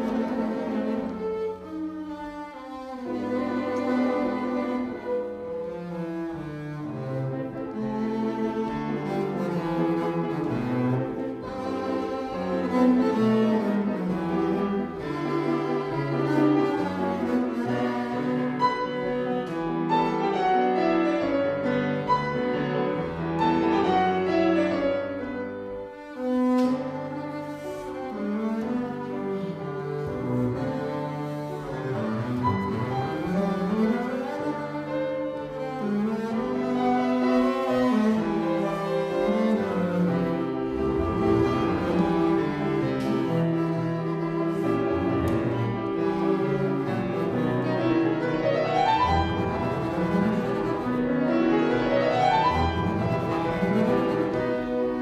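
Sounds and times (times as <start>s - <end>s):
bowed double bass: 0.0s - 55.0s
grand piano: 0.0s - 55.0s.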